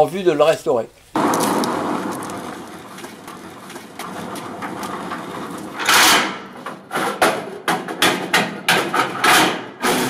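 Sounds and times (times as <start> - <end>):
metallic knocks and rattles: 1.2 - 9.8
metal door scraping: 1.2 - 10.0.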